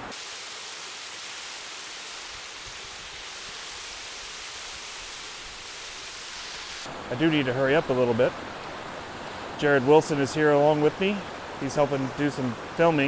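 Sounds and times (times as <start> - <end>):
waterfall and river rushing: 0.0 - 13.0.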